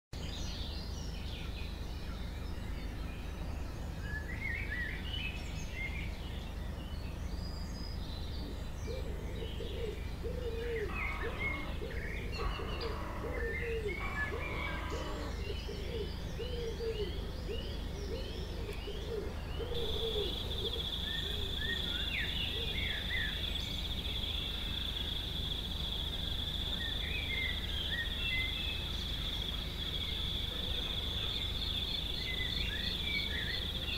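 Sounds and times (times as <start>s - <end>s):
birds chirping: 0.2s - 33.9s
low outdoor rumble: 0.2s - 33.9s.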